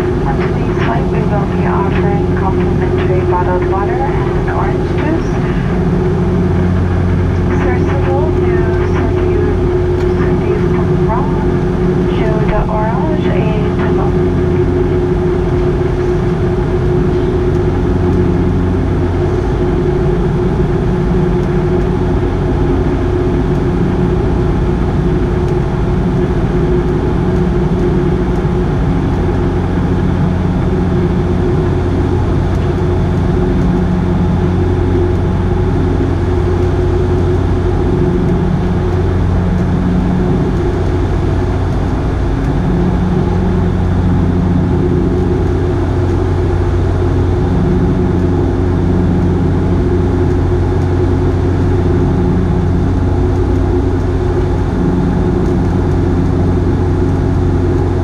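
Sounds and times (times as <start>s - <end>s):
low propeller hum: 0.0s - 58.0s
turboprop engine drone: 0.0s - 58.0s.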